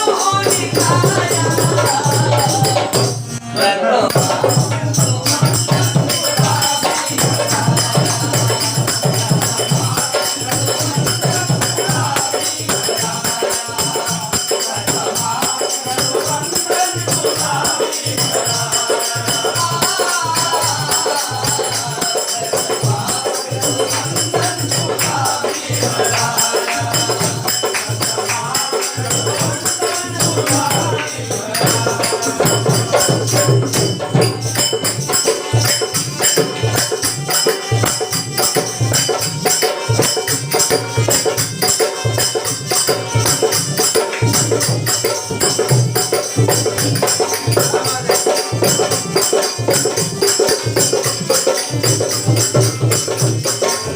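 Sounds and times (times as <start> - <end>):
group singing devotional song: 0.0 - 53.9
rhythmic hand percussion: 0.0 - 53.9.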